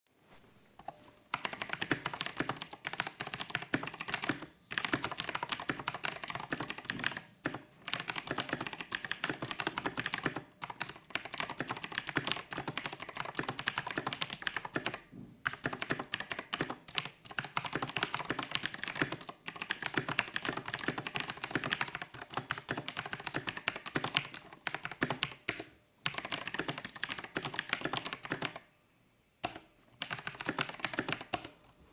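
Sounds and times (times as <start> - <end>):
mechanical keyboard typing: 0.8 - 28.7, 29.4 - 31.6.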